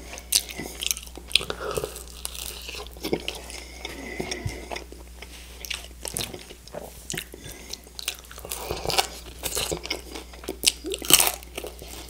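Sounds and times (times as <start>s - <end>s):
crunchy bites and chewing: 0.0s - 12.0s.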